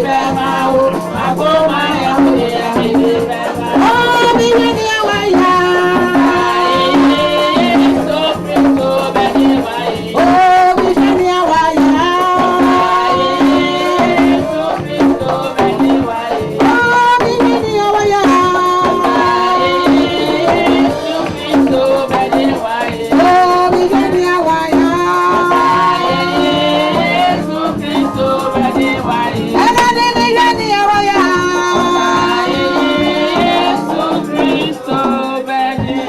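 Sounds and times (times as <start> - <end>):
live church band music: 0.0 - 36.0.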